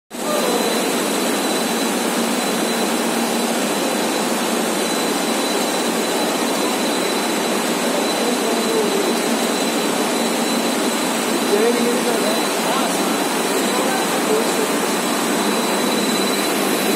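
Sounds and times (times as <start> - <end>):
thin high whine: 0.1 - 16.9
machinery hissing: 0.2 - 16.9.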